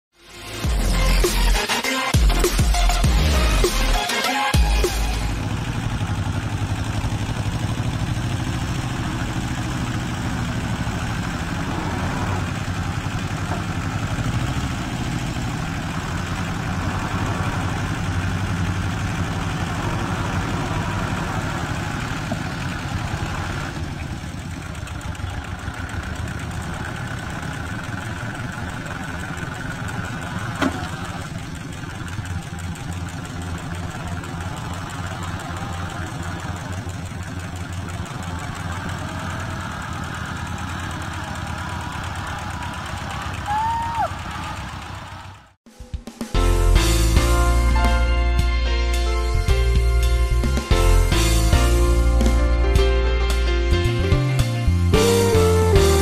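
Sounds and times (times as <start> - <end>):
tractor diesel engine running: 0.2 - 45.6, 46.4 - 56.0.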